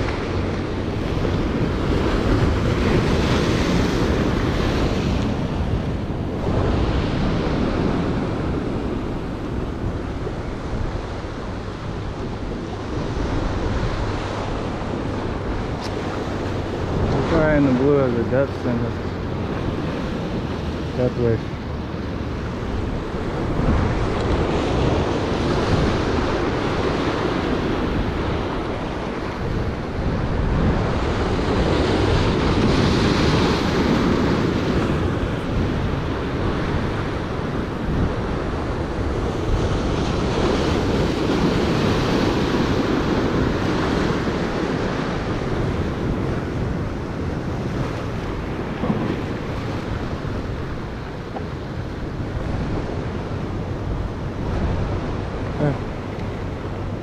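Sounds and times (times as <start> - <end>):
surf breaking over rocks: 0.0 - 57.0
wind buffeting microphone: 0.0 - 57.0.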